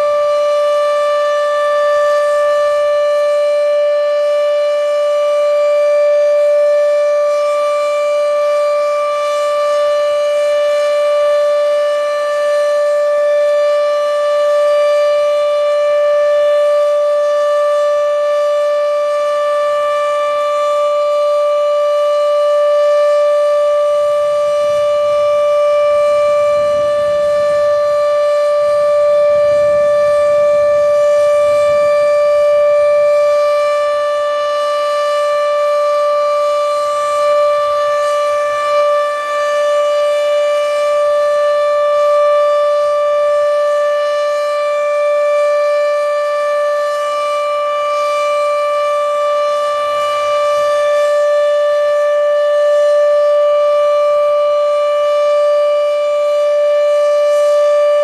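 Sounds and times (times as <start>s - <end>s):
warning siren steady tone: 0.0s - 58.0s.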